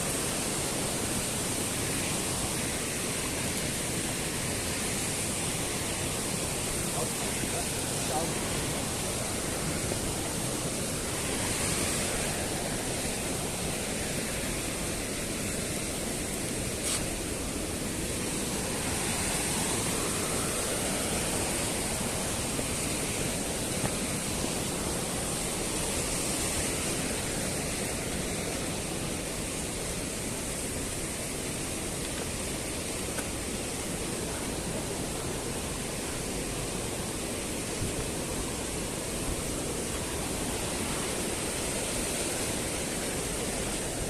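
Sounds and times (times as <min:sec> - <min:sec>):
rushing white water: 0:00.0 - 0:44.0.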